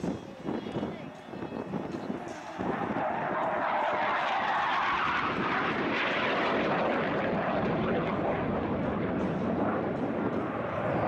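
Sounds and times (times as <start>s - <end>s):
jet roar: 0.0s - 11.0s.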